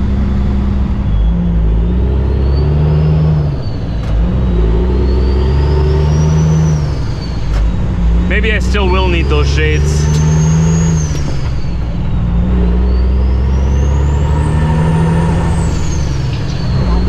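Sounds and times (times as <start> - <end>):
truck engine accelerating through gears: 0.0 - 17.0.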